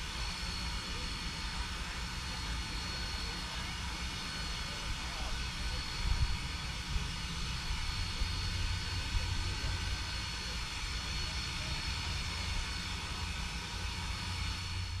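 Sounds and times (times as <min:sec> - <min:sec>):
steam locomotive rumble and hiss: 0:00.0 - 0:15.0.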